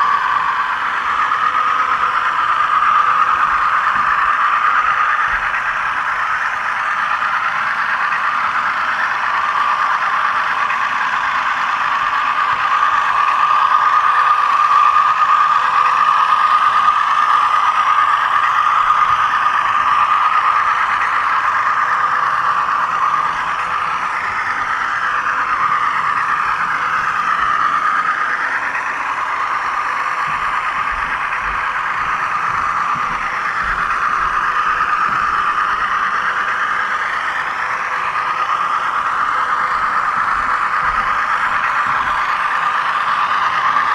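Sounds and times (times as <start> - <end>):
model train motor whine: 0.0 - 43.9
wheels rattling on rails: 0.0 - 43.9.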